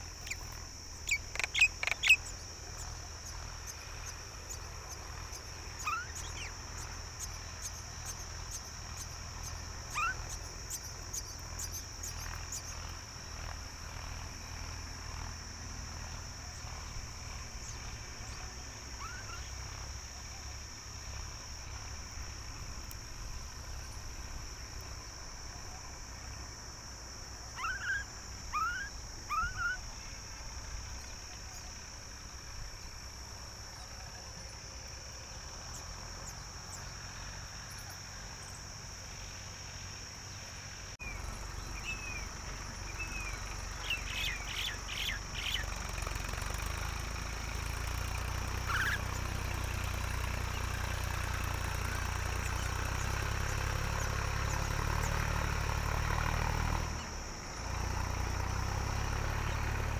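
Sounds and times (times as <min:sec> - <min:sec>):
myna birds chirping: 0:00.0 - 0:26.5, 0:27.4 - 0:38.7, 0:40.2 - 0:55.3
steady high hiss: 0:00.0 - 0:59.9.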